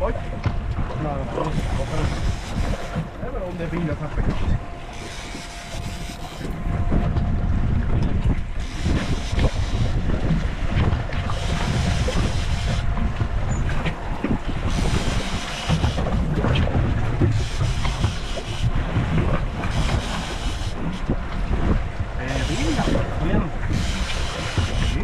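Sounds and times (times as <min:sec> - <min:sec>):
boat engine rumble: 0:00.0 - 0:25.0
wind buffeting microphone: 0:00.0 - 0:25.0.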